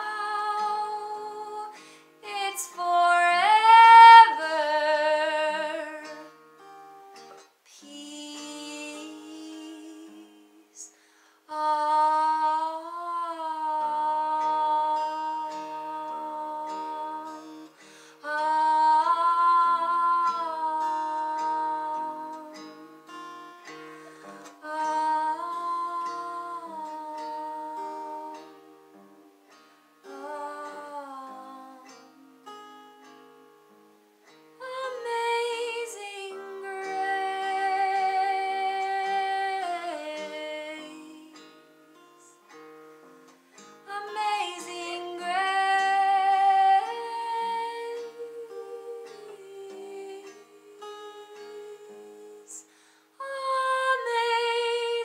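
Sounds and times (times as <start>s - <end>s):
woman singing: 0.0s - 29.4s, 30.0s - 33.2s, 34.6s - 42.6s, 43.8s - 55.0s
plucked acoustic guitar: 0.0s - 55.0s.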